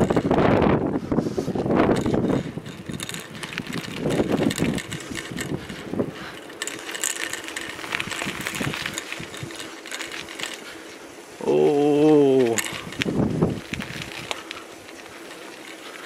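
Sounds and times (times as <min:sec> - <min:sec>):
wind gusting on microphone: 0:00.0 - 0:15.4
bicycle rattling over rough road: 0:00.0 - 0:16.0.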